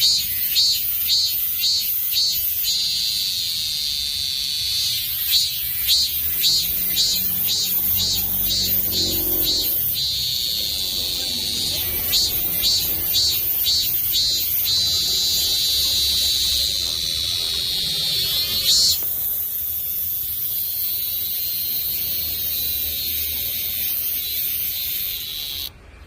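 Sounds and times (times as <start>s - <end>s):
cicada buzzing: 0.0s - 26.0s.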